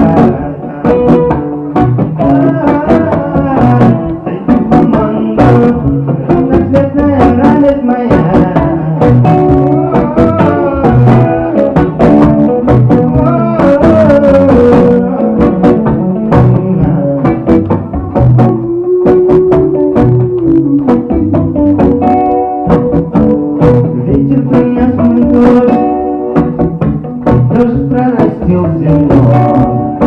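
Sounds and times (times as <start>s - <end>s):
bass: 0.0s - 30.0s
guitar plucked in steady rhythm: 0.0s - 30.0s.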